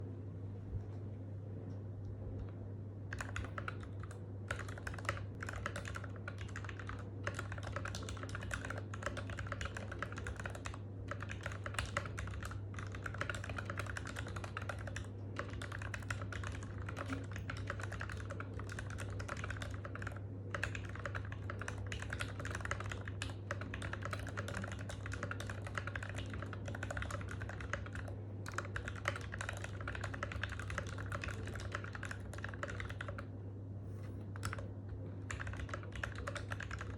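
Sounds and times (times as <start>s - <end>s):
steady low hum: 0.0s - 36.9s
mechanical keyboard typing: 3.1s - 33.2s, 34.3s - 34.7s, 35.3s - 36.9s.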